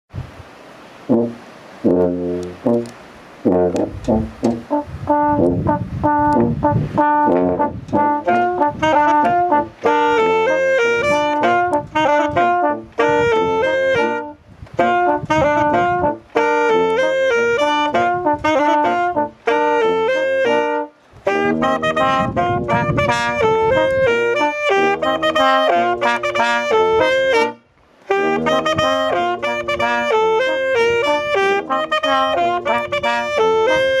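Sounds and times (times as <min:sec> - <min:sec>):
brass and saxophone folk dance: 0:00.2 - 0:34.0.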